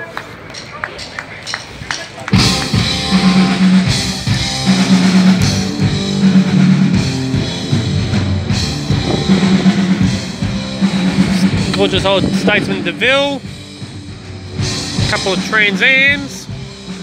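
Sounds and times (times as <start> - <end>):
live rock band playing: 2.3 - 17.0
low bass notes: 2.3 - 17.0.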